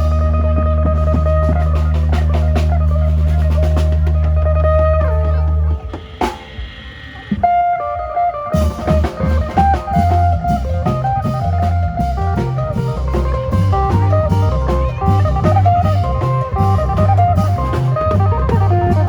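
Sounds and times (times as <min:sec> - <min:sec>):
electric plucked lute melody: 0:00.0 - 0:05.9, 0:07.4 - 0:19.0
heavy bass line: 0:00.0 - 0:07.7, 0:08.5 - 0:19.0
drum kit: 0:00.0 - 0:19.0.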